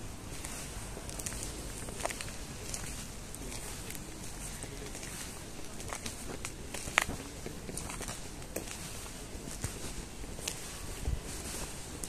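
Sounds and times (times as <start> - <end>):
steady low background noise: 0.0 - 12.0.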